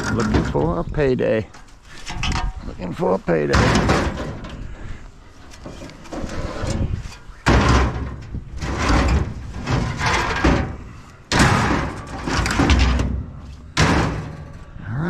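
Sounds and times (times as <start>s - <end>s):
scrap metal heavy bangs: 0.0s - 0.9s, 1.9s - 5.0s, 5.6s - 14.8s.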